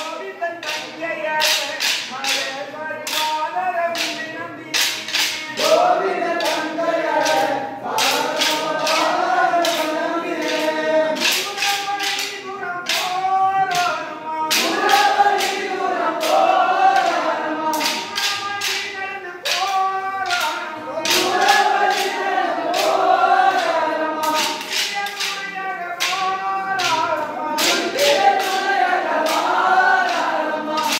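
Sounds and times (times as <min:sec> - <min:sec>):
men singing in chorus: 0:00.0 - 0:12.3, 0:13.7 - 0:18.8, 0:19.4 - 0:24.9, 0:26.3 - 0:30.9
wooden sticks clacking: 0:00.0 - 0:30.9.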